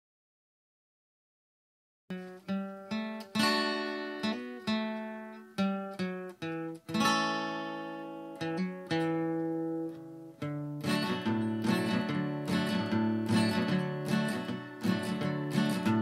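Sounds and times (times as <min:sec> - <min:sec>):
acoustic guitar playing: 0:02.1 - 0:16.0.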